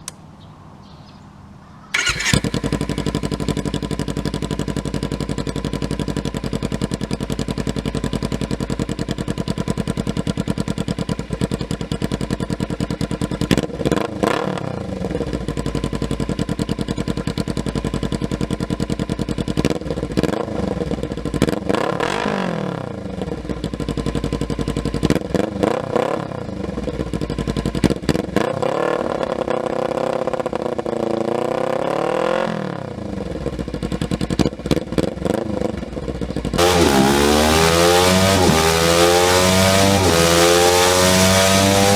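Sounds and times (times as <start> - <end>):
motorcycle engine revving: 1.9 - 41.9.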